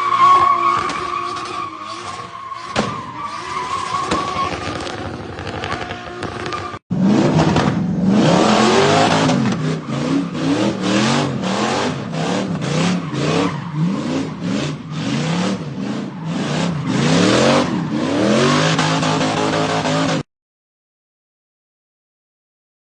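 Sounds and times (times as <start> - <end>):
car engine revving: 0.8 - 20.2.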